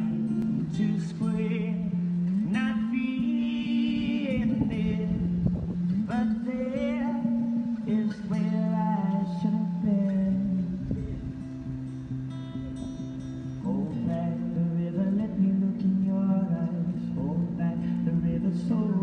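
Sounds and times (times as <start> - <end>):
man singing: 0.0 - 11.7, 13.6 - 19.0
acoustic guitar: 0.0 - 19.0.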